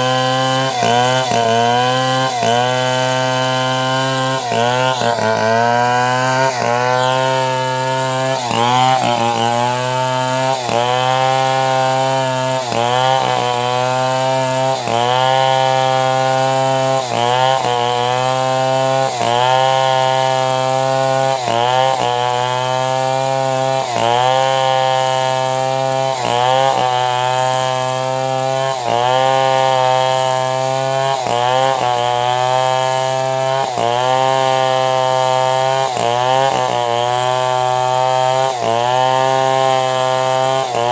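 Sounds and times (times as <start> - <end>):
chainsaw cutting a log: 0.0 - 40.9.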